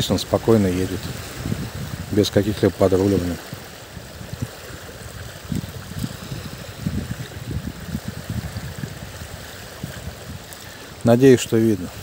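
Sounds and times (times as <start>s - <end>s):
rush of wind-driven water: 0.0s - 12.0s
wind buffeting microphone: 0.0s - 12.0s.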